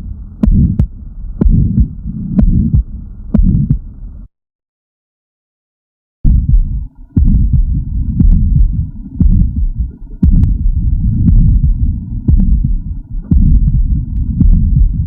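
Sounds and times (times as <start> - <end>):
heartbeat thuds: 0.0 - 3.9, 6.3 - 15.0
rough whooshing heart murmur: 0.0 - 3.9, 6.3 - 15.0.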